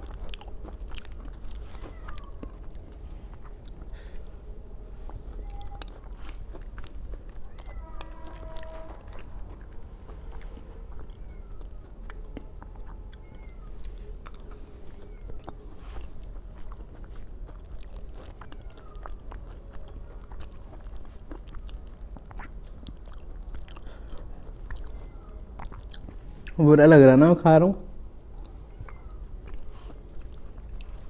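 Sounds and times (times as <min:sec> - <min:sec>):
person chewing food: 0:00.0 - 0:26.6, 0:27.8 - 0:31.0
steady low hum: 0:00.0 - 0:31.0.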